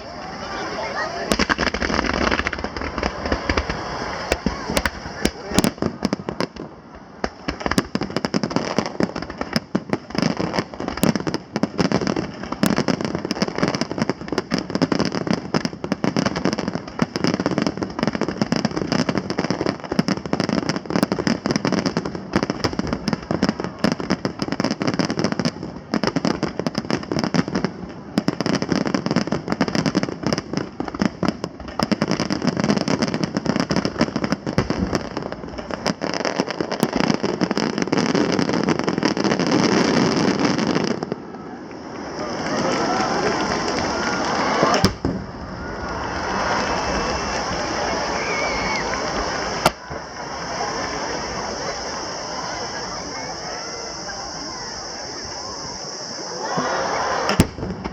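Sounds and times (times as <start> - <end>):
fireworks crackling and banging: 0.0 - 57.9.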